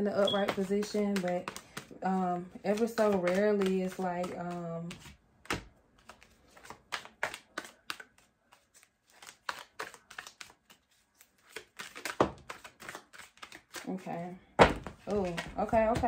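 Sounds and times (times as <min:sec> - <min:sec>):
cards being shuffled: 0:00.2 - 0:16.0.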